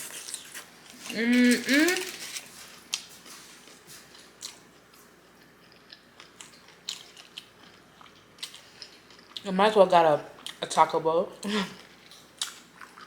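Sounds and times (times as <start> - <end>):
person chewing food: 0.0 - 9.5, 10.4 - 10.6, 11.8 - 13.0.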